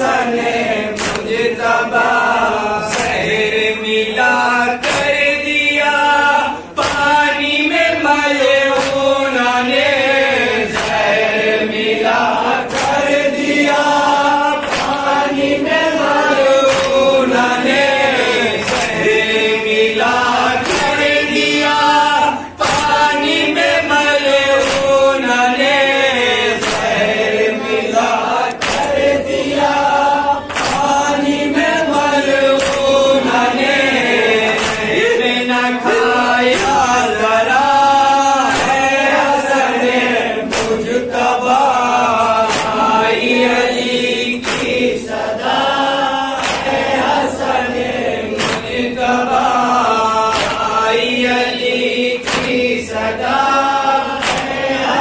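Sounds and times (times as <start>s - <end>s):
men chanting through microphones: 0.0s - 55.0s.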